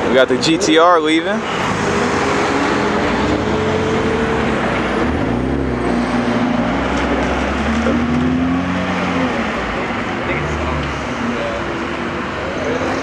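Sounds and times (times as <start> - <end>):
car engine pulling away: 1.4 - 13.0.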